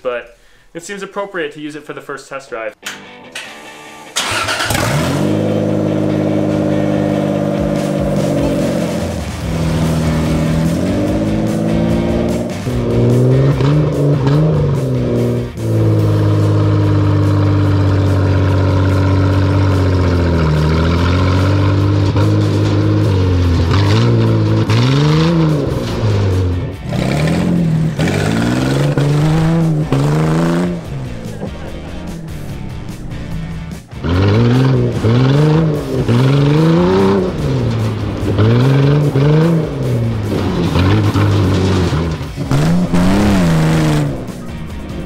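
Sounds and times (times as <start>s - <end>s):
engine revving: 4.1s - 45.0s.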